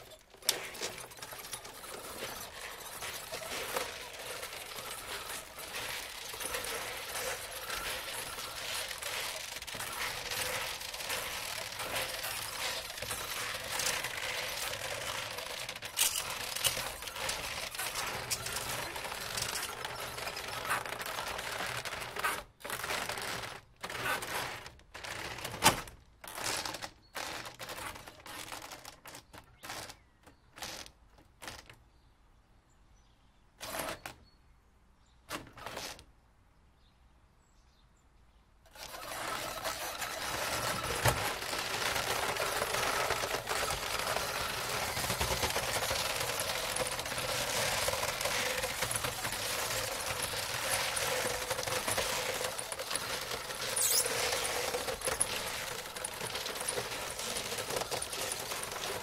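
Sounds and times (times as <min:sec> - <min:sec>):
roller shutter rattling: 0:00.0 - 0:29.9, 0:38.7 - 0:59.0.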